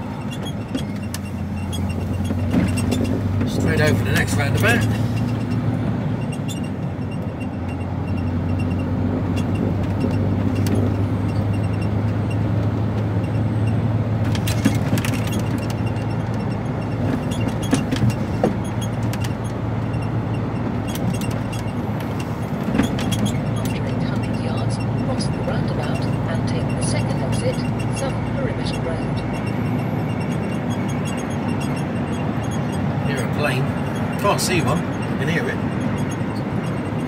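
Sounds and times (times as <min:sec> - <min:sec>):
diesel engine drone: 0:00.0 - 0:37.0
road noise: 0:00.0 - 0:37.0.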